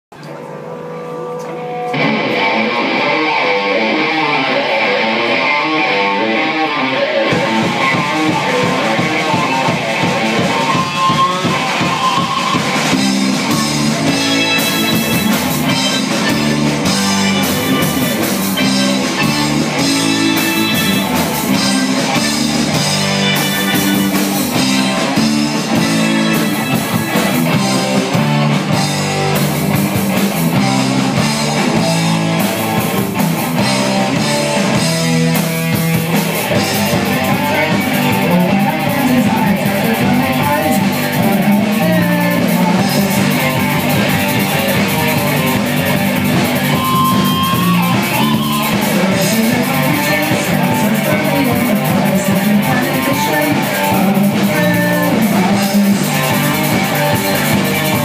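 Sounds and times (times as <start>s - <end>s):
electric guitars: 0.1s - 58.0s
live rock band playing: 0.1s - 58.0s
drum kit and cymbals: 7.2s - 58.0s.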